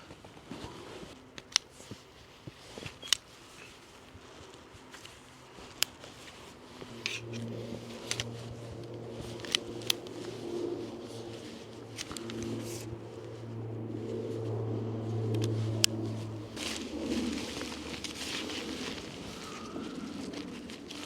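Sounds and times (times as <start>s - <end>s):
tent poles clicking and tapping: 0.5s - 14.6s, 15.2s - 21.0s
low steady hum: 3.7s - 21.0s.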